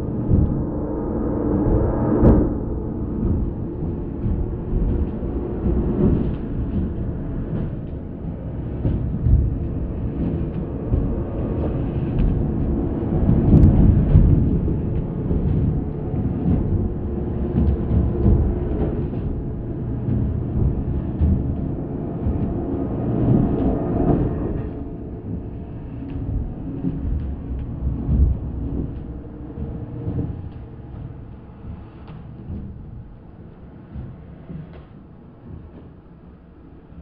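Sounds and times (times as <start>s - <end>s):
deep continuous horror rumble: 0.0s - 37.0s.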